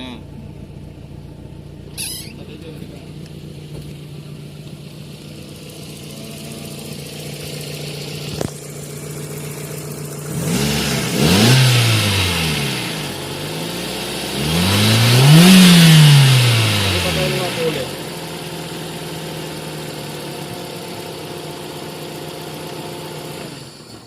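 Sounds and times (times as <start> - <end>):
car engine idling: 0.0 - 24.0
engine revving: 0.0 - 24.0.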